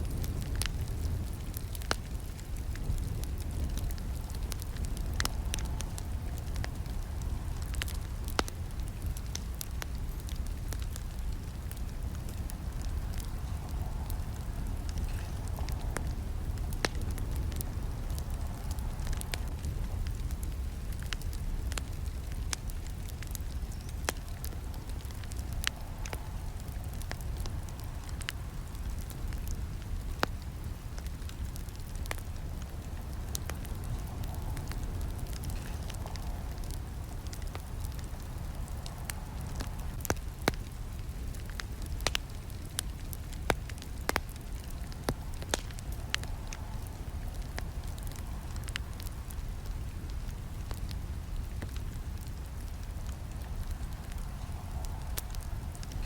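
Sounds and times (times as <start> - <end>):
campfire crackling and rumbling: 0.0 - 56.0.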